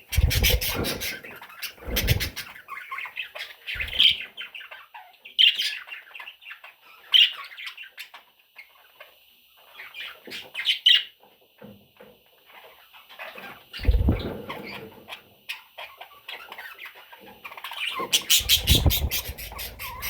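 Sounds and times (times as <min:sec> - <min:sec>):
budgie chicks chirping and squawking: 0:00.0 - 0:20.0.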